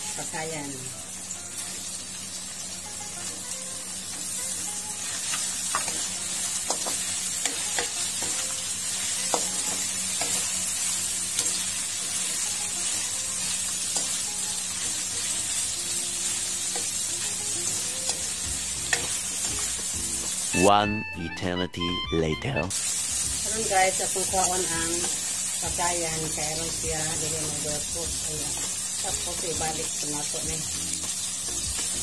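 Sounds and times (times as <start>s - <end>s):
meat and shrimp sizzling in a wok: 0.0s - 20.6s, 22.7s - 32.0s.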